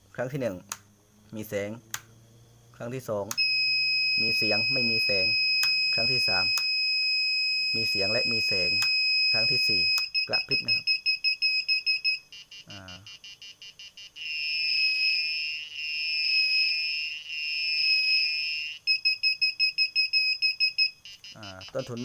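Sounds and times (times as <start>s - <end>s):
buzzer ticking pulses: 3.3s - 22.0s
piezo buzzer beeping: 3.3s - 22.0s
long buzzer tones: 3.4s - 22.0s.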